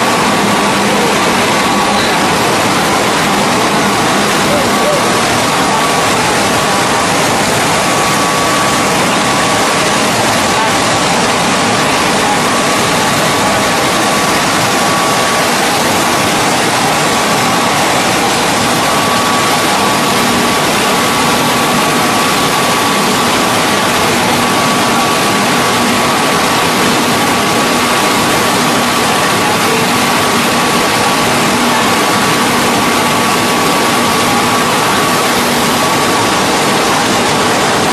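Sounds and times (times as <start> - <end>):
low machine hum: 0.0 - 37.9
veneer lathe running: 0.0 - 37.9.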